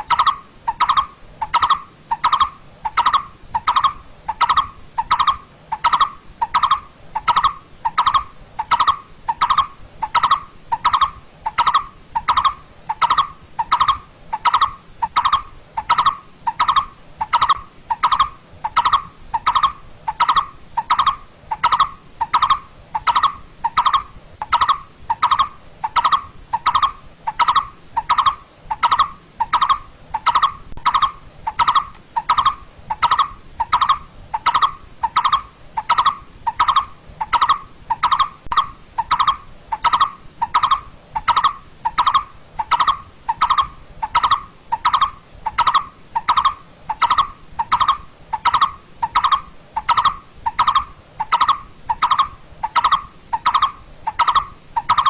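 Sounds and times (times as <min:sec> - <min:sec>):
bird calling hollow tuk notes: 0:00.0 - 0:55.0.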